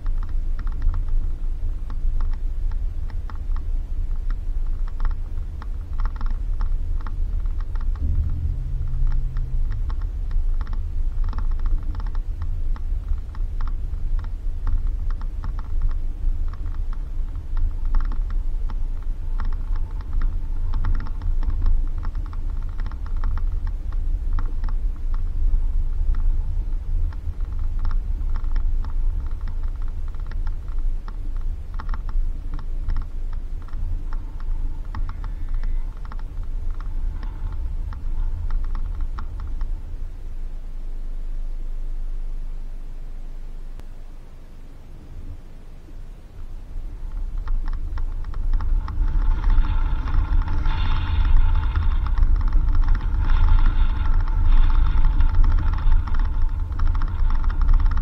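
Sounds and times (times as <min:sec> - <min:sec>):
rattling and clicking over bumps: 0:00.0 - 0:40.1, 0:46.3 - 0:58.0
brief low hum: 0:00.0 - 0:58.0
vehicle rumbling on dirt road: 0:00.0 - 0:58.0.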